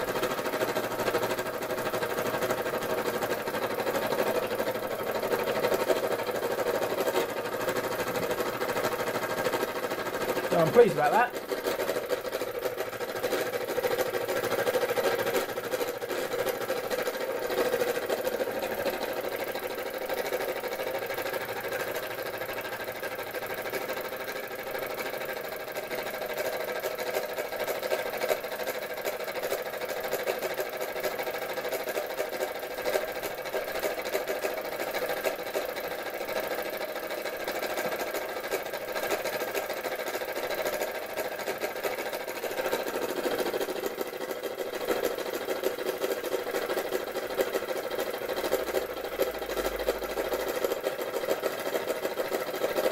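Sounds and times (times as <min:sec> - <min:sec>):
toy steam engine clattering: 0:00.0 - 0:52.9.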